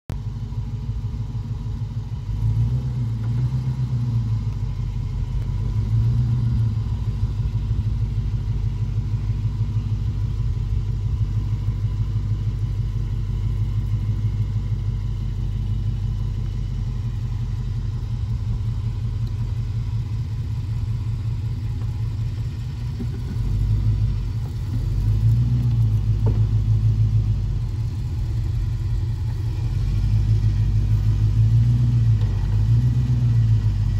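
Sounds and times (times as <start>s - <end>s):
engine running at low revs: 0.1s - 33.9s.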